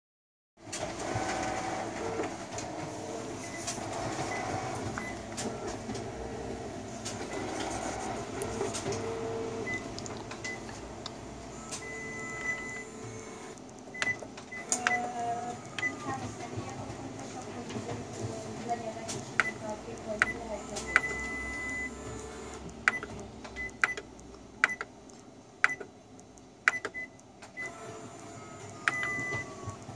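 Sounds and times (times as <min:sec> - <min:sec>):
copier running: 0:00.6 - 0:26.0, 0:26.6 - 0:29.9.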